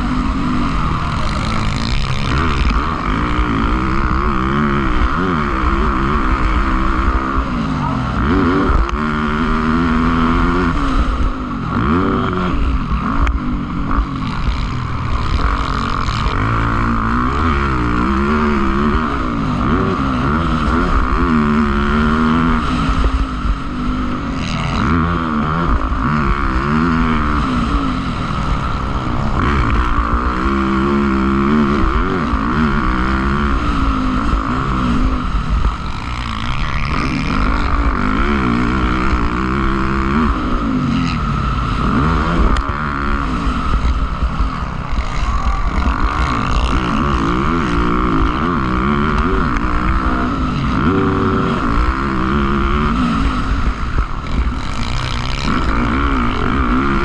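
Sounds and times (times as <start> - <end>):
motocross engines revving: 0.0 - 57.0.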